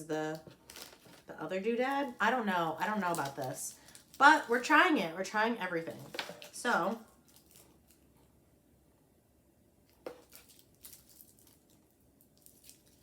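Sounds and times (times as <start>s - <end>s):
candy wrappers crinkling: 0.0s - 8.1s, 10.0s - 13.0s.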